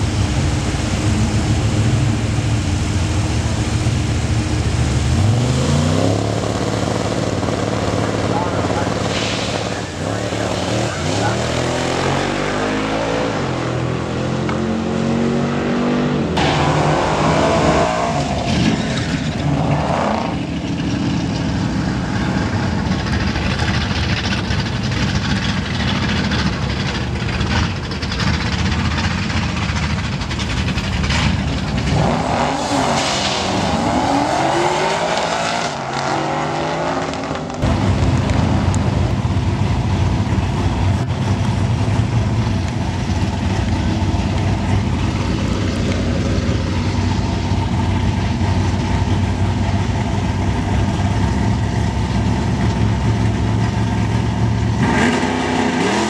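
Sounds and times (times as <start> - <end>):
cars passing by: 0.0 - 56.0
engine running at low revs: 0.0 - 56.0
race car engines revving: 0.0 - 56.0.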